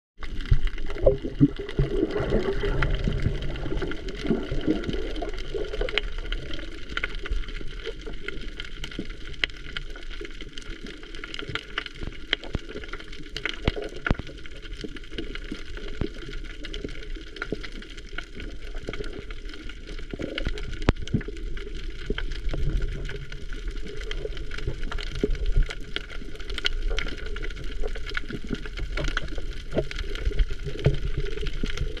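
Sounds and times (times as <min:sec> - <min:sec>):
gurgling water: 0:00.2 - 0:32.0
muffled underwater rush: 0:00.2 - 0:32.0
sharp clicks and crackles: 0:00.2 - 0:32.0.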